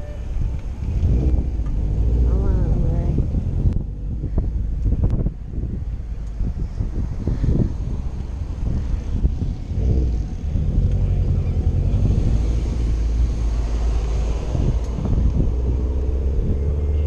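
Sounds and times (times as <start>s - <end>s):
car engines running: 0.0s - 17.0s
wind buffeting microphone: 0.0s - 17.0s.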